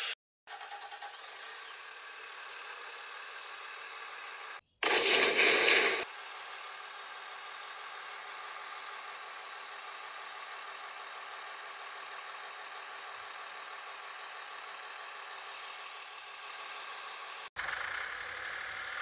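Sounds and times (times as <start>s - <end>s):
truck engine idling: 0.5s - 17.4s.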